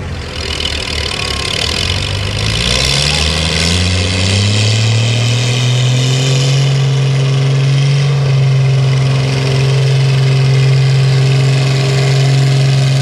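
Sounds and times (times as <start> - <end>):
tractor engine at full throttle: 0.0 - 13.0.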